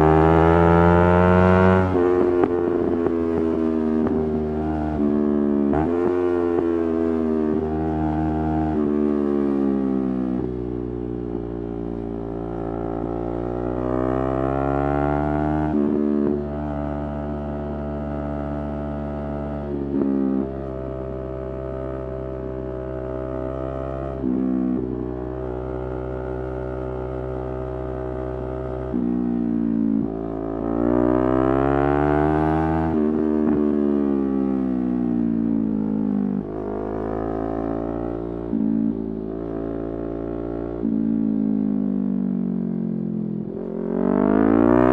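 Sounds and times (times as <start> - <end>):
motorcycle engine revving: 0.0 - 10.4, 11.9 - 41.9, 43.4 - 44.9.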